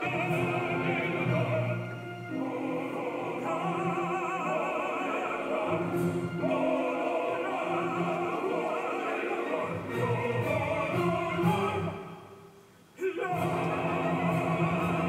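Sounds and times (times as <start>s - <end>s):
man singing opera with vibrato: 0.0s - 12.2s, 13.0s - 15.0s
orchestra: 0.0s - 15.0s.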